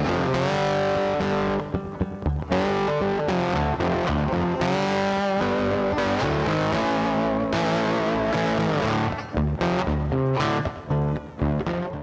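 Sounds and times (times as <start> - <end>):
electric guitar music: 0.0 - 12.0.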